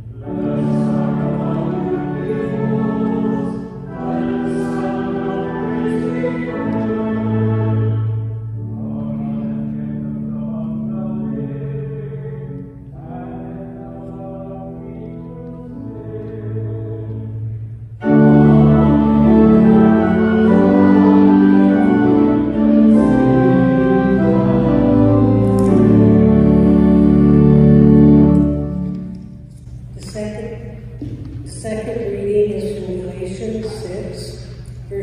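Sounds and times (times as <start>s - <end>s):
church organ playing chords: 0.0s - 35.0s.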